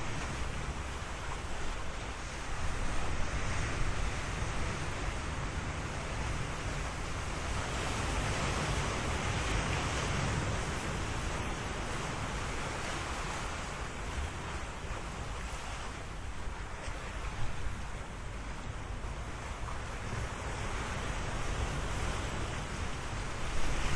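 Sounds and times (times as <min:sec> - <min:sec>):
ocean waves breaking: 0:00.0 - 0:23.9.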